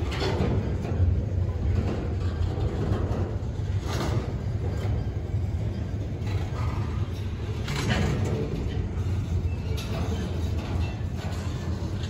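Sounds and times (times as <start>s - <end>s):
freight train rumbling on rails: 0.0s - 12.0s
rattling of train cars: 0.0s - 12.0s.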